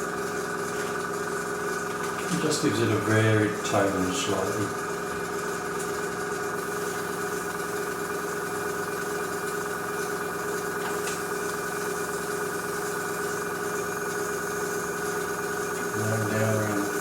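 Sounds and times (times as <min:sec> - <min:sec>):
airbrush compressor humming: 0:00.0 - 0:17.0.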